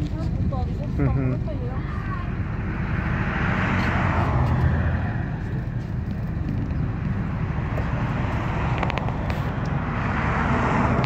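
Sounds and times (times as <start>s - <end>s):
passing traffic road noise: 0.0s - 11.0s
vehicle engine idling: 0.0s - 11.0s.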